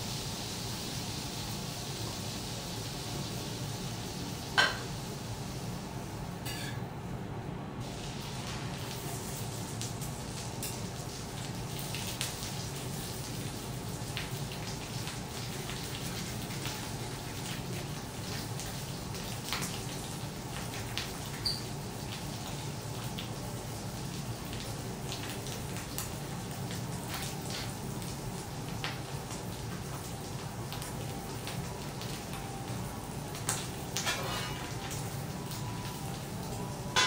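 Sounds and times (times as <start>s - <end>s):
food sizzling on a griddle: 0.0s - 6.9s, 7.8s - 37.0s.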